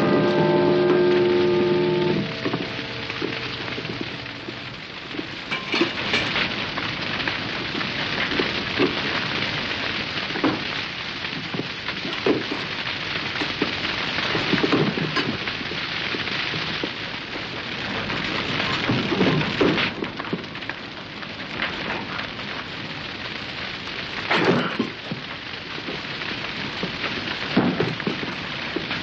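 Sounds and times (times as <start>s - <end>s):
large fire crackling: 0.0s - 29.0s
fire pops and cracks: 1.8s - 29.0s.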